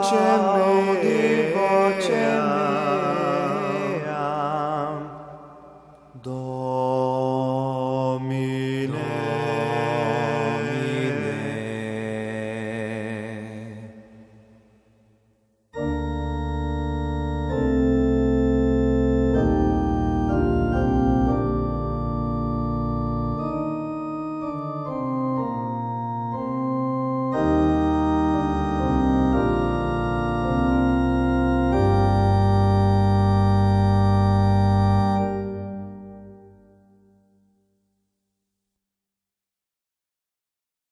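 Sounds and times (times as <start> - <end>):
synthesized organ-like choral music: 0.0 - 14.7, 15.8 - 37.2.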